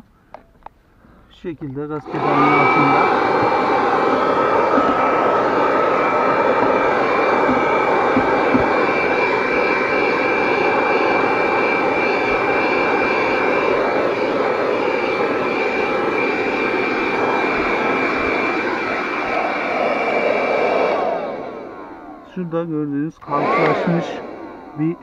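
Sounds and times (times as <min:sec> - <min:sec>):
handheld vacuum running: 0:02.0 - 0:25.0.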